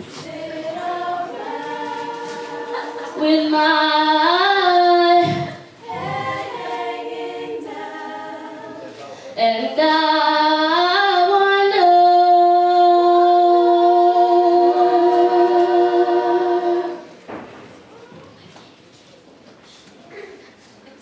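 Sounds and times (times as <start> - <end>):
women singing a cappella: 0.0 - 17.2.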